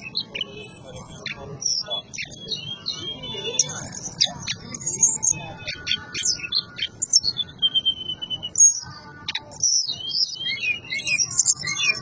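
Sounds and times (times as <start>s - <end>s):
bird singing whistled phrases: 0.0s - 12.0s.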